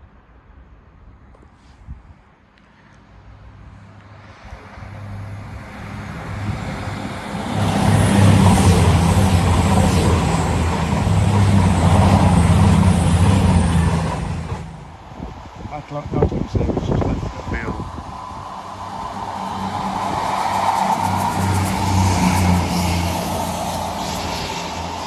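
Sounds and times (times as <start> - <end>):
diesel train passing: 3.1 - 25.0.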